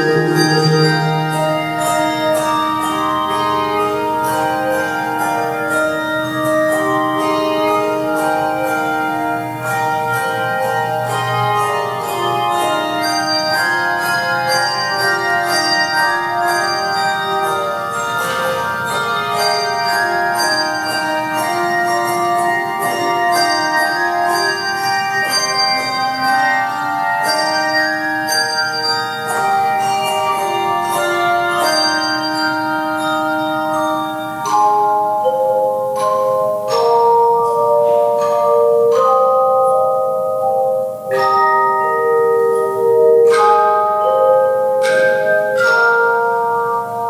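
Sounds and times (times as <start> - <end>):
bell-like instrumental melody: 0.0 - 47.0.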